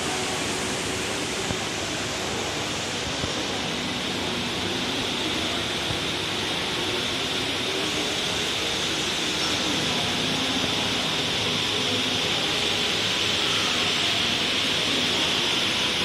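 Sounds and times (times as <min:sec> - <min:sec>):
indoor waterfall rushing: 0:00.0 - 0:16.0.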